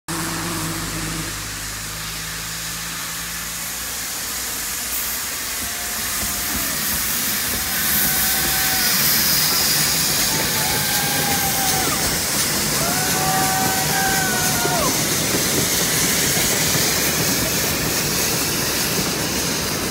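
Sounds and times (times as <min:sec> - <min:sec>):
steam locomotive hissing steam: 0:00.1 - 0:19.9
train running noise: 0:00.1 - 0:19.9.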